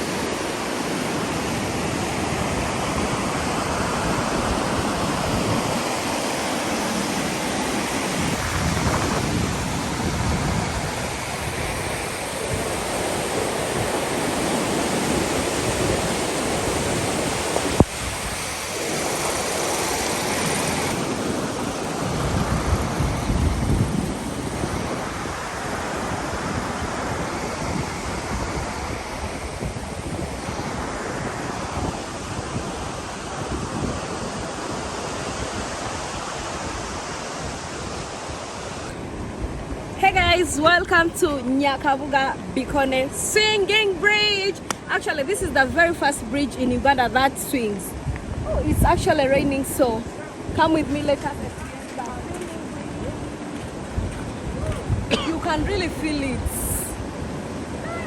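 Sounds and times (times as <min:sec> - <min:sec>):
fast-flowing river rushing: 0:00.0 - 0:58.0
wind buffeting microphone: 0:00.0 - 0:58.0.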